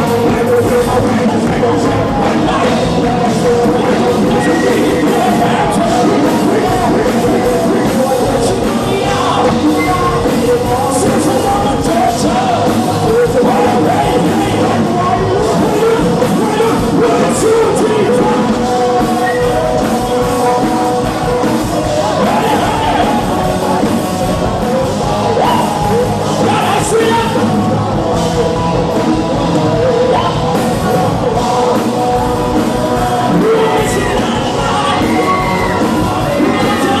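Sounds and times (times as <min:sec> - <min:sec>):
drums: 0:00.0 - 0:37.0
rock band playing: 0:00.0 - 0:37.0.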